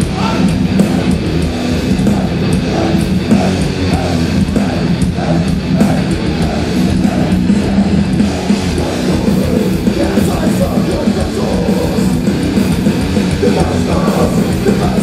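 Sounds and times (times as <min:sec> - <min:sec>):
death metal band playing: 0:00.0 - 0:15.0.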